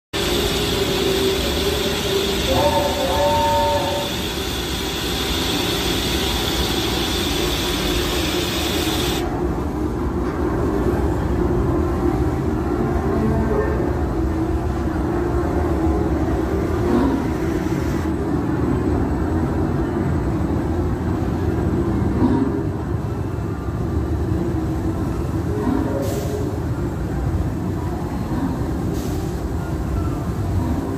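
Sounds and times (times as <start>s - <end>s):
train rumbling: 0.1s - 30.9s.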